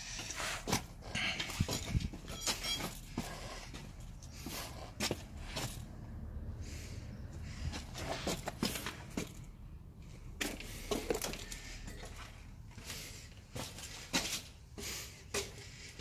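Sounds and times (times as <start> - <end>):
footsteps on concrete: 0.0 - 16.0.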